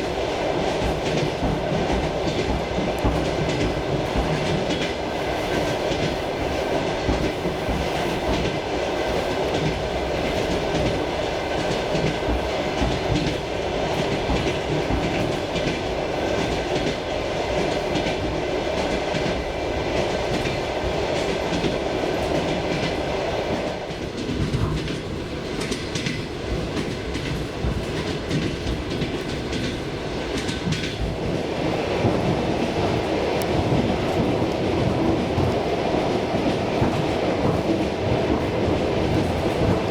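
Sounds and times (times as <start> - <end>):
train running gear rumble: 0.0 - 39.9
wheels clickety-clack over rail joints: 0.0 - 39.9.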